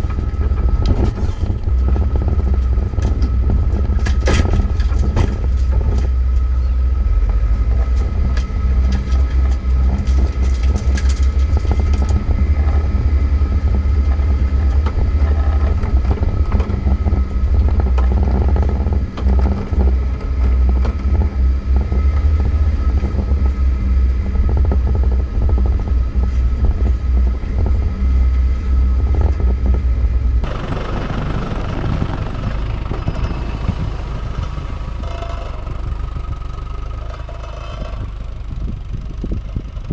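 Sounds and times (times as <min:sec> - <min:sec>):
drivetrain clatter: 0:00.0 - 0:39.9
off-road vehicle engine rumble: 0:00.0 - 0:39.9.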